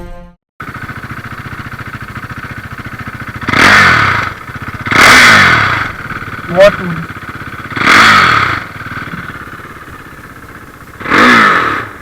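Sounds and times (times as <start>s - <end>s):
engine running and revving: 0.6s - 12.0s.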